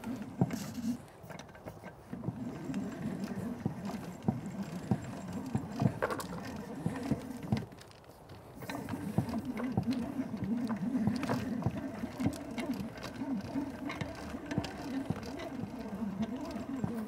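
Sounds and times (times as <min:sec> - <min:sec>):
hose reel cranking clicks: 0:00.0 - 0:17.0.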